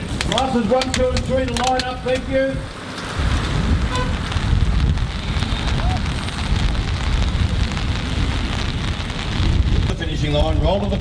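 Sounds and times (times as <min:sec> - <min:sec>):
rain hiss: 0:00.0 - 0:11.0
wind buffeting microphone: 0:00.0 - 0:11.0.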